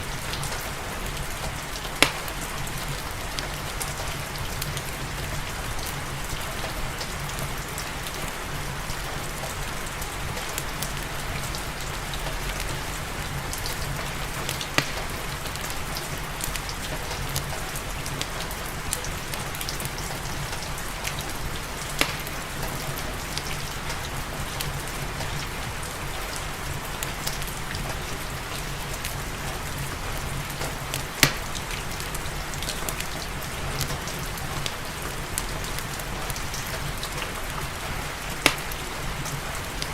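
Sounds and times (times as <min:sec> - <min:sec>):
steady rain falling: 0:00.0 - 0:39.9
wood fire crackling: 0:00.0 - 0:39.9.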